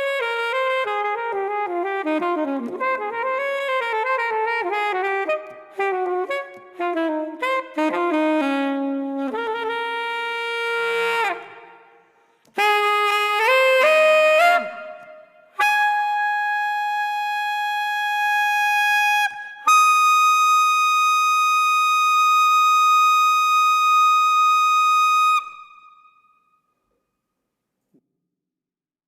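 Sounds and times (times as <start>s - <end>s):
wind instrument long notes: 0.0s - 26.1s.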